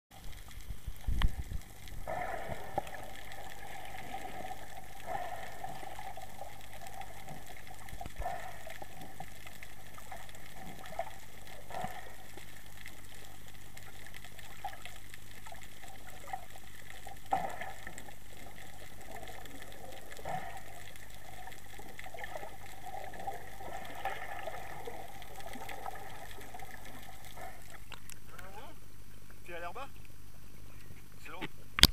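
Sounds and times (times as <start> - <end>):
muffled underwater sea noise: 0.1 - 31.9.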